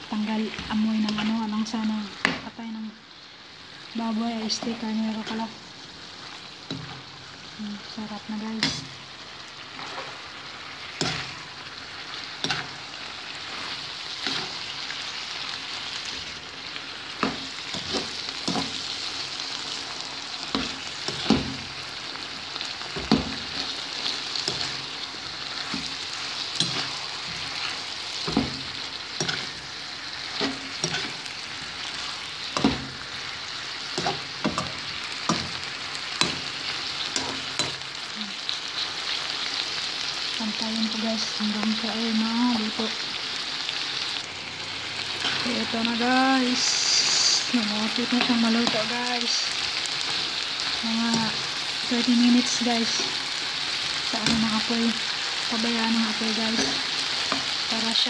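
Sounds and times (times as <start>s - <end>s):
food sizzling in a wok: 0.0s - 58.0s.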